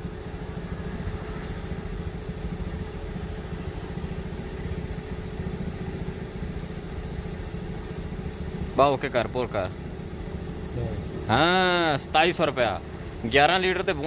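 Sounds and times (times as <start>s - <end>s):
machinery pulsing rumble and hum: 0.0s - 14.0s.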